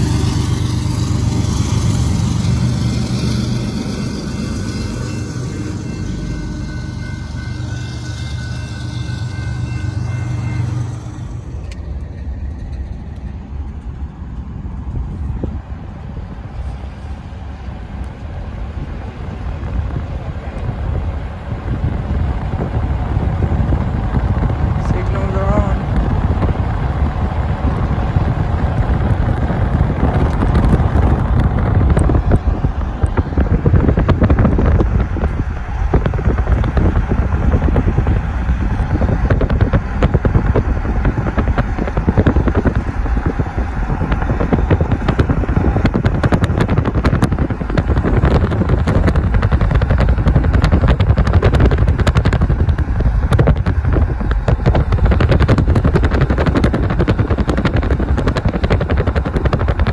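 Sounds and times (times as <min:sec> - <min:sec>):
car road noise: 0:00.0 - 0:59.9
wind buffeting microphone: 0:00.0 - 0:59.9.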